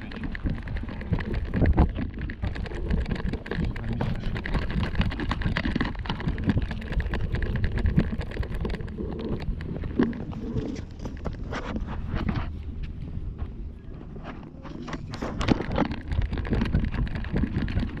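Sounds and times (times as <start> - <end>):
knocks and rustles: 0.0 - 18.0
wind buffeting microphone: 0.0 - 18.0.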